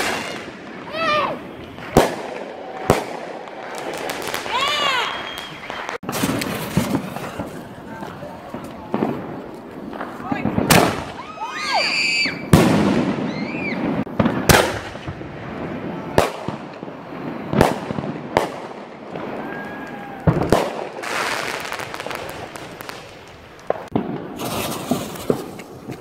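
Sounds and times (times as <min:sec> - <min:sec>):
firework bangs: 0:00.0 - 0:26.0.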